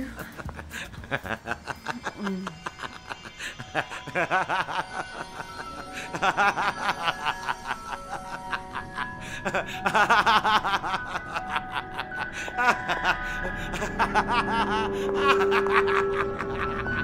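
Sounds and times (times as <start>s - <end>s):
man laughing: 0.0s - 17.0s
music with held notes: 0.0s - 17.0s.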